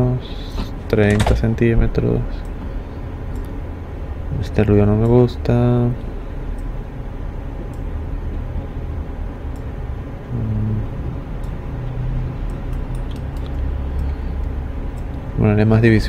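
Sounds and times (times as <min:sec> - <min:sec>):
low rumble and hiss of room noise: 0:00.0 - 0:16.0.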